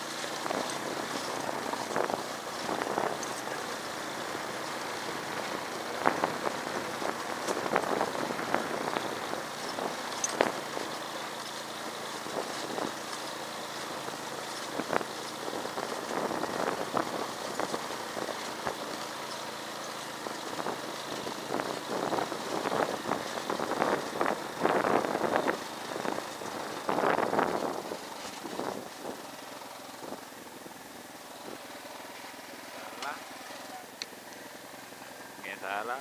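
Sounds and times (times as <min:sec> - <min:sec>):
motorcycle engine running: 0:00.0 - 0:36.0
motorcycle rattling over bumps: 0:00.0 - 0:36.0.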